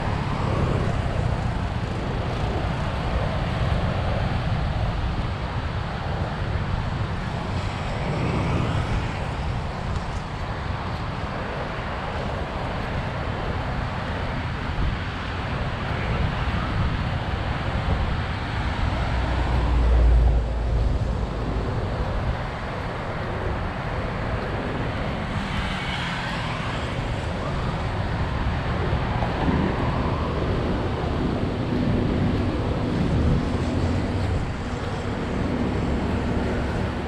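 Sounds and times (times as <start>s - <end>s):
traffic rumble and hiss: 0.0s - 37.0s.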